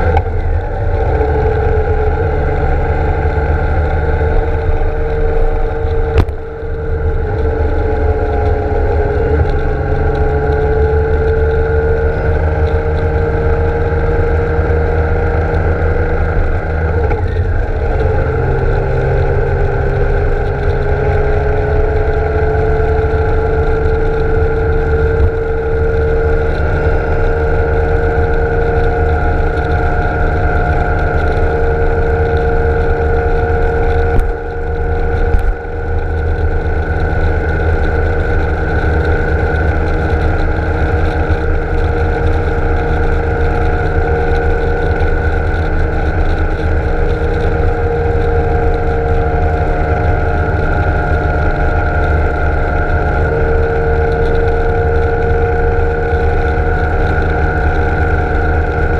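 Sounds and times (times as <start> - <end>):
motorcycle engine cruising: 0.0 - 58.9
wind rushing over camera: 0.0 - 58.9.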